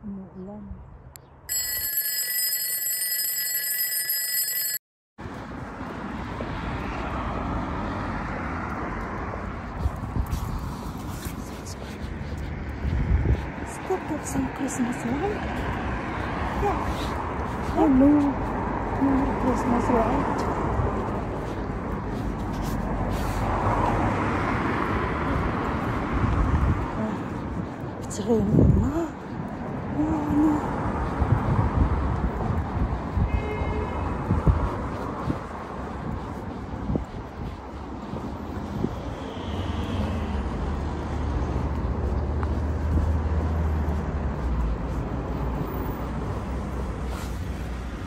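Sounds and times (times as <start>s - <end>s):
road traffic rushing: 5.2s - 48.0s.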